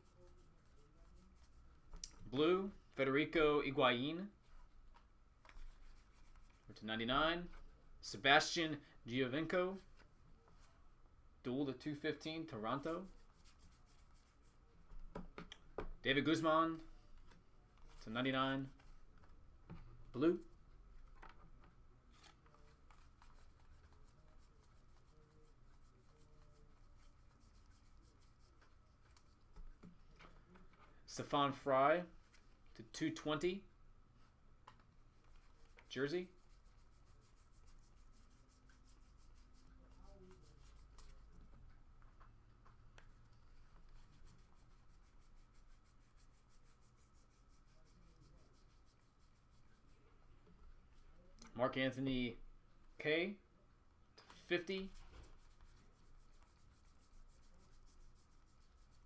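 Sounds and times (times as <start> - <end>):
soft rubbing of cards: 0.0 - 7.8, 8.5 - 10.9, 12.0 - 15.3, 16.2 - 33.4, 34.1 - 51.3, 54.2 - 59.0.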